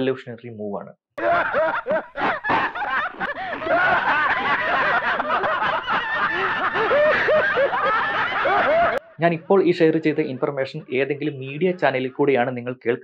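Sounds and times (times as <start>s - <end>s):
men laughing: 1.2s - 12.4s.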